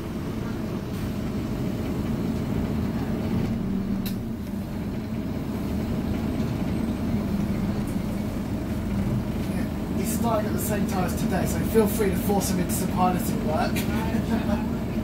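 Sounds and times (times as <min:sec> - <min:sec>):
bus engine low drone: 0:00.0 - 0:15.0.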